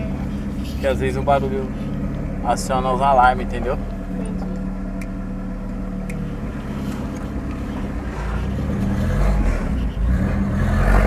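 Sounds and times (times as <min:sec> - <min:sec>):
car engine exhaust: 0:00.0 - 0:11.0.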